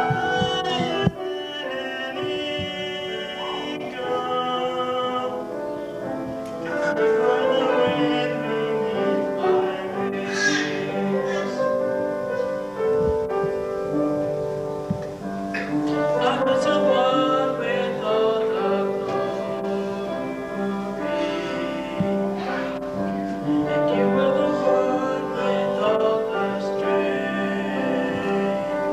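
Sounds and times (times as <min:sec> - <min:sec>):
slow music with long held notes: 0:00.0 - 0:28.9.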